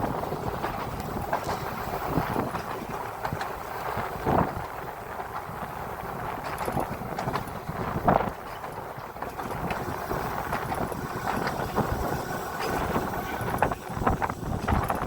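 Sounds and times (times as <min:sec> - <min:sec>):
tram rumbling on rails: 0:00.0 - 0:15.0
wheels clicking and knocking: 0:00.0 - 0:15.0
wind buffeting microphone: 0:00.0 - 0:15.0.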